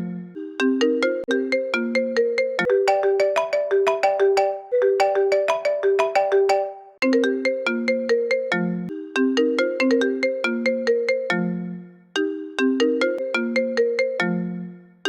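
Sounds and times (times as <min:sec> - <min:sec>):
phone ringtone melody: 0:00.0 - 0:11.6, 0:12.2 - 0:14.5.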